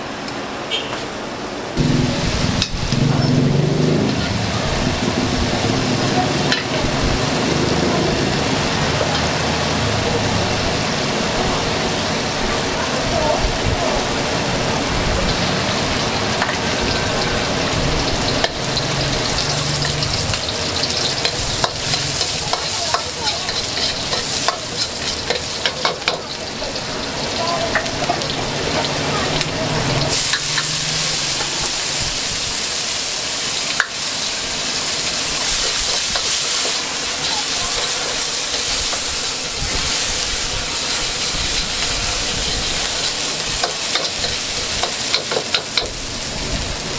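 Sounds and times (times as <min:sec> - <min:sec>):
rice sizzling in a wok: 0:01.7 - 0:46.9.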